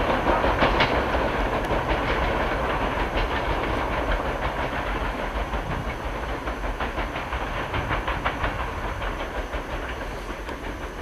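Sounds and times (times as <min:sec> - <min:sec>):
train wheels clicking over rail joints: 0:00.0 - 0:11.0.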